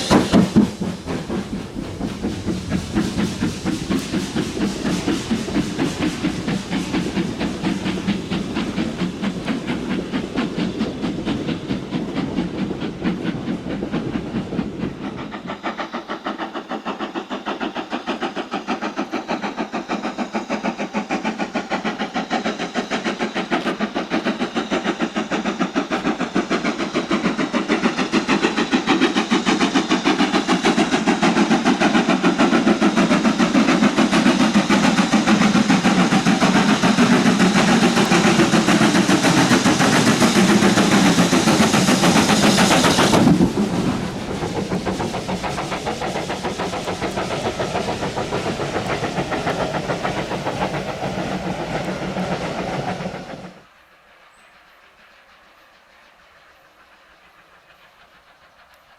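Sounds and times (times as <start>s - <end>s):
carriages clickety-clack: 0.0s - 53.8s
steam locomotive passing at speed: 0.0s - 58.9s.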